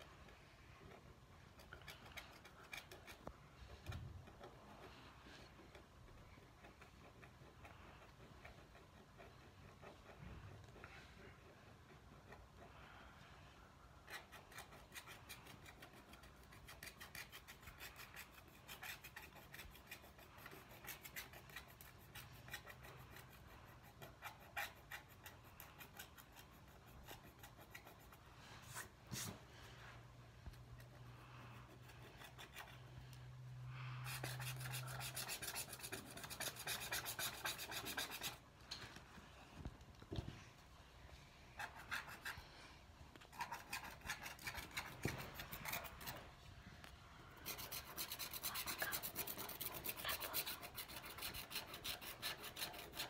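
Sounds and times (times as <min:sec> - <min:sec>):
stylus scratching paper: 0:00.0 - 0:12.8, 0:14.0 - 0:29.4, 0:30.7 - 0:33.0, 0:34.0 - 0:38.4, 0:41.6 - 0:42.5, 0:43.3 - 0:46.3, 0:47.4 - 0:53.0.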